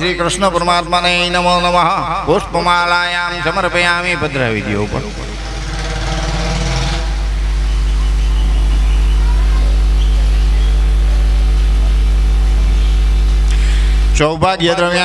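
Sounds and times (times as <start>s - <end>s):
low electrical mains hum: 0.0s - 15.0s.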